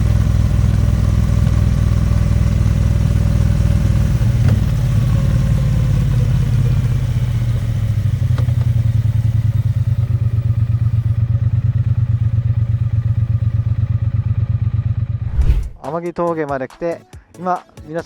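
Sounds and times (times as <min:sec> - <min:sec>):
motorcycle engine idling: 0:00.0 - 0:15.3.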